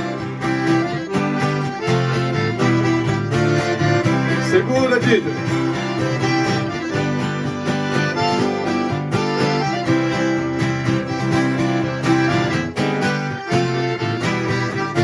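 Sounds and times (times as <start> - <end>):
viola and acoustic guitar strummed: 0.0 - 15.0.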